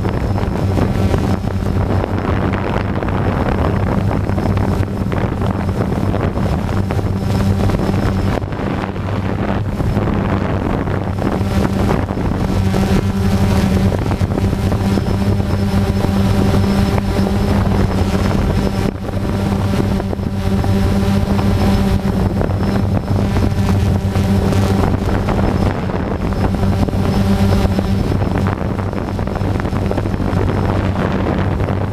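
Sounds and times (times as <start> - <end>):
drone propellers humming: 0.0 - 31.9
high whine: 0.0 - 31.9
wind noise on microphone: 0.0 - 31.9.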